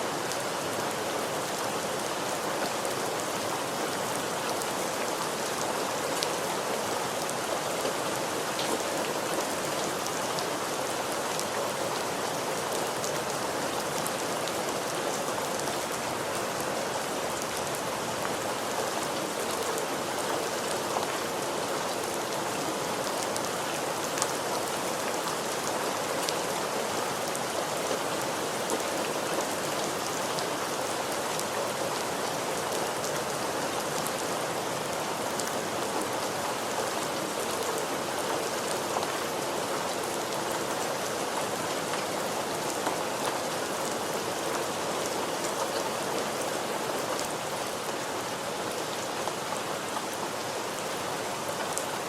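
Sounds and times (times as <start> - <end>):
rain on a hard surface: 0.0 - 52.0.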